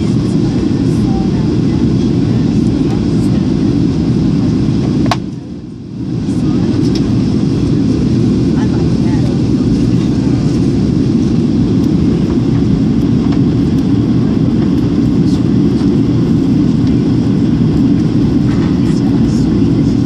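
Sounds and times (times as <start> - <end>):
jet engine and airflow rush: 0.0 - 20.0.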